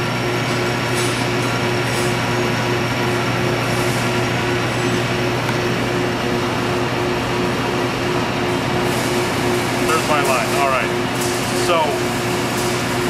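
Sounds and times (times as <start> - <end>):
metal lathe pulsing hum: 0.0 - 13.0.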